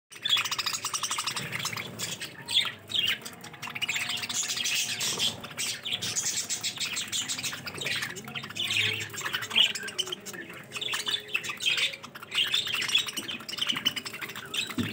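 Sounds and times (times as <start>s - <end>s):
budgerigars chattering: 0.1s - 14.9s.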